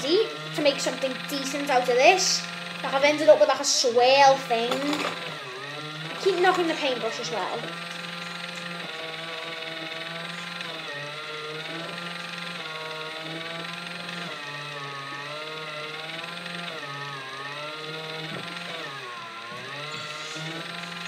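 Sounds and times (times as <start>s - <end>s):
small motor whirring: 0.0s - 21.0s.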